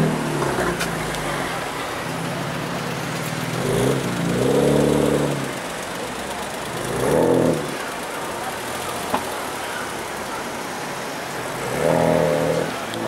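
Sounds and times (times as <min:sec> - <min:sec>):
car engine burbling and revving: 0:00.0 - 0:13.0.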